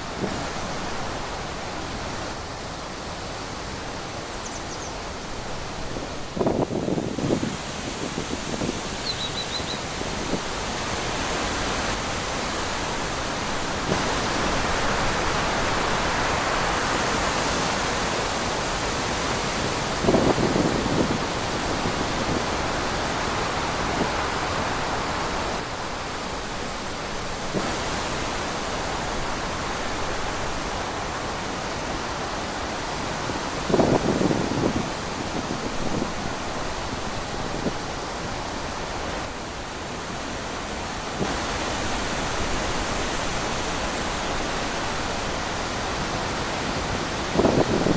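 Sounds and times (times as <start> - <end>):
wind buffeting microphone: 0.0 - 39.4, 40.0 - 47.9
wind blowing: 0.0 - 47.9.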